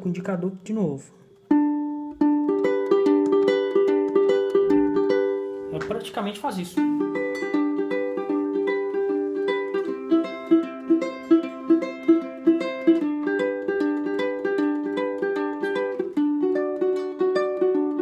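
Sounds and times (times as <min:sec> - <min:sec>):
ukulele fingerpicked: 0:00.0 - 0:18.0.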